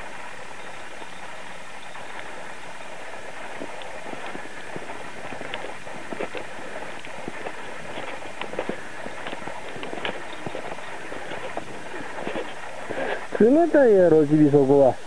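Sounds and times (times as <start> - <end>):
footsteps crunching in snow: 0.0 - 14.6
steady hiss: 0.0 - 15.0.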